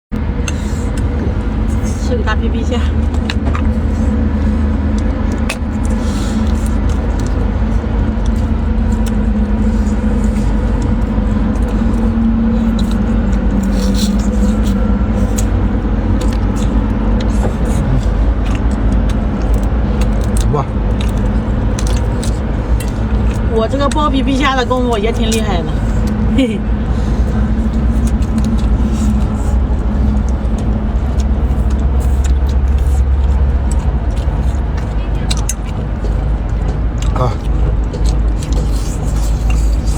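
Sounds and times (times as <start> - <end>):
boat engine droning: 0.1 - 39.9
low rumble: 0.1 - 39.9.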